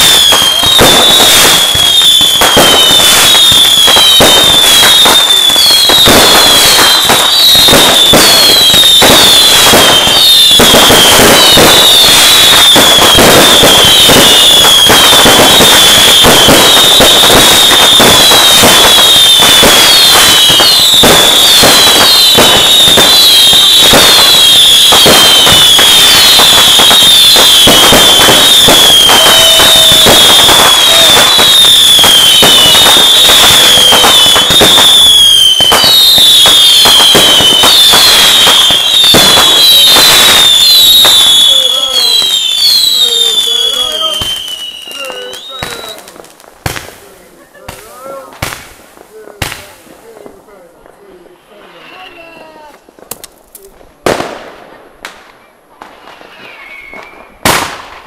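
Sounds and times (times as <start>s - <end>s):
falling firework whistles: 0.0s - 48.8s, 51.3s - 52.9s, 55.8s - 58.0s
fireworks bangs and crackles: 0.0s - 58.0s.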